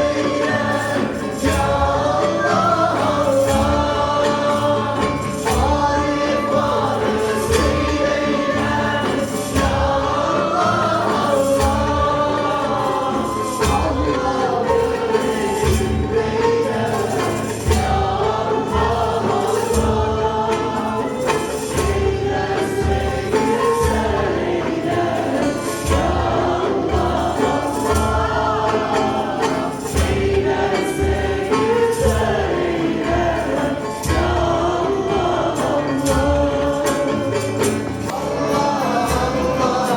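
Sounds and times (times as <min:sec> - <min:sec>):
group of voices singing: 0:00.0 - 0:39.9
jingling percussion: 0:00.0 - 0:39.9
steady drum beat: 0:00.0 - 0:39.9.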